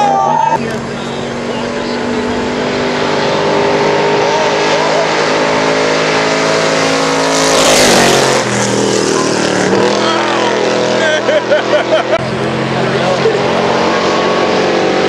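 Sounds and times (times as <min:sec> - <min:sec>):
truck engine passing by: 0:00.0 - 0:15.0.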